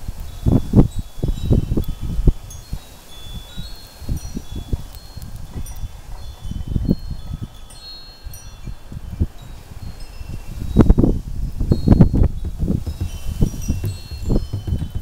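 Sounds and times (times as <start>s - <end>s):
wind buffeting microphone: 0.0s - 15.0s
wind chimes ringing: 0.0s - 15.0s.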